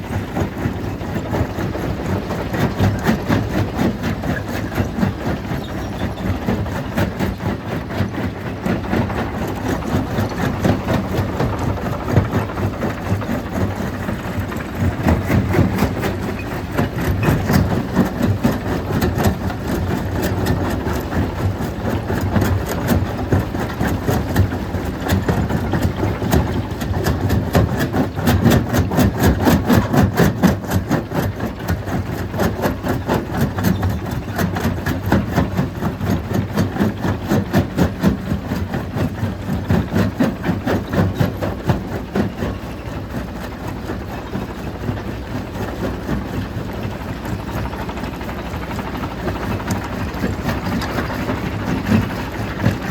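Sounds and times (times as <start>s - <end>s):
stone crushing machine rattling: 0.1s - 52.9s.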